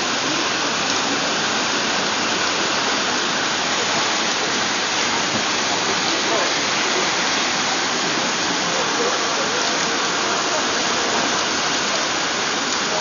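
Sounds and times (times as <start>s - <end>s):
faint voices: 0.0s - 13.0s
rain falling: 0.0s - 13.0s.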